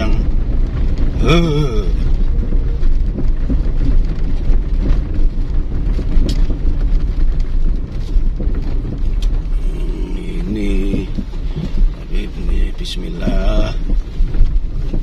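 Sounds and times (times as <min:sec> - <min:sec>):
car rumbling on dirt road: 0:00.0 - 0:15.0
wheels knocking over bumps: 0:00.0 - 0:15.0.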